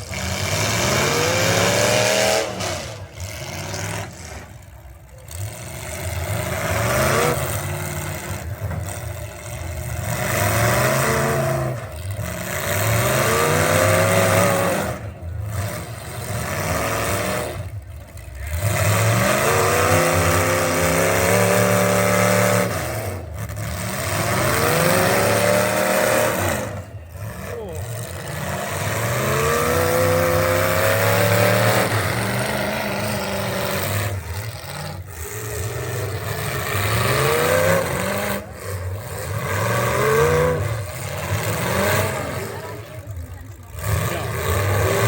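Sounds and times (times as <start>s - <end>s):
racing truck engine accelerating: 0.0s - 45.0s.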